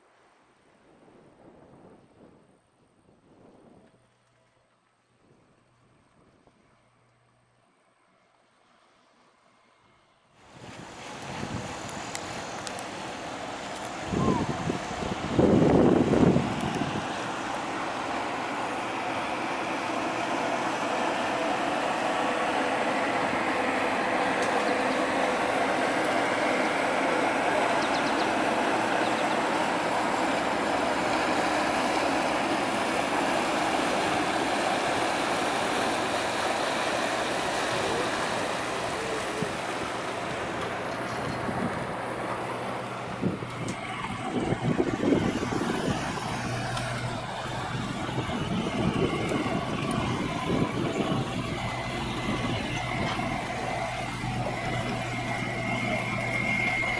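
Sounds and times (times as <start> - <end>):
yacht diesel engines running: 3.5 - 56.9
workboat engine uneven: 3.6 - 56.9.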